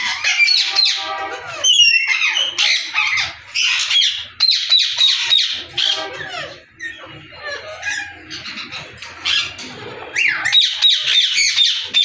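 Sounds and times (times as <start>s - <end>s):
parakeets squawking and screeching: 0.0s - 12.0s.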